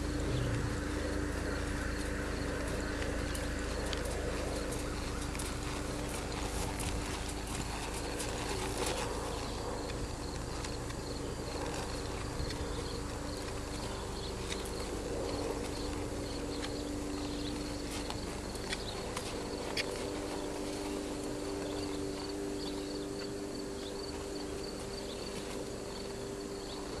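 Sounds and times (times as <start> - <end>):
hoofbeats on sandy dirt: 0.0 - 27.0
insects chirping: 0.0 - 27.0
steady low hum: 0.0 - 27.0.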